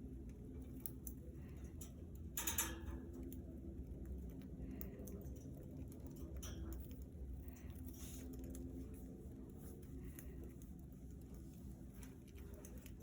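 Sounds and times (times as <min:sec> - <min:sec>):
faint clicks and ticks in cage: 0:00.0 - 0:13.0
low steady hum: 0:00.0 - 0:13.0.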